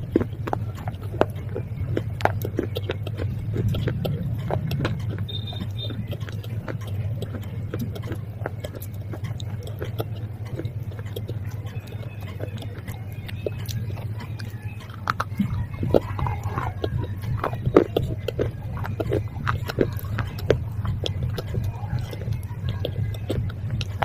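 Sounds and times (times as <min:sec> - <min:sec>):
crunchy chewing: 0:00.0 - 0:24.0
steady low hum: 0:00.0 - 0:24.0.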